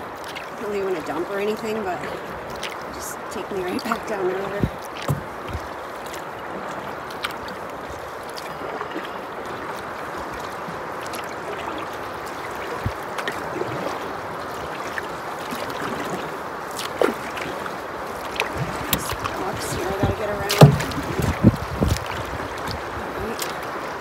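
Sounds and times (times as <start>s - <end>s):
river current rushing: 0.0s - 24.0s
paddle strokes knocking: 0.2s - 23.9s.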